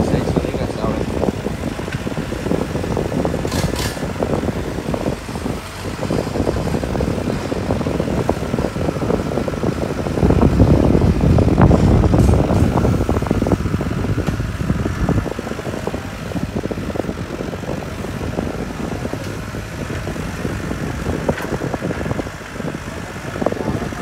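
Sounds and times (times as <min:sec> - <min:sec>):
excavator diesel engine rattling: 0:00.0 - 0:24.0.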